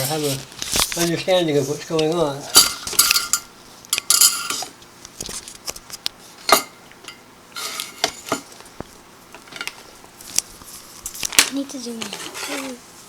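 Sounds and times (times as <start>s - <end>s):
objects clattering: 0.0s - 12.8s.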